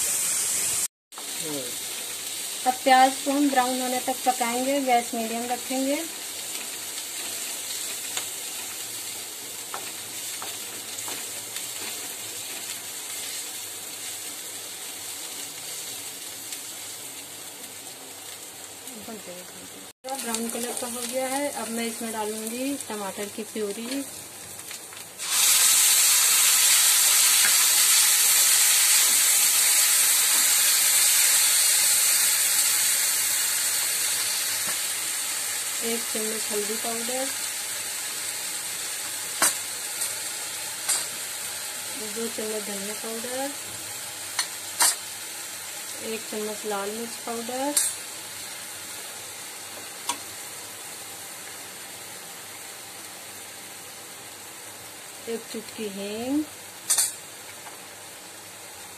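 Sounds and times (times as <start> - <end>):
loud sizzling hiss in hot oil: 0.0 - 58.9.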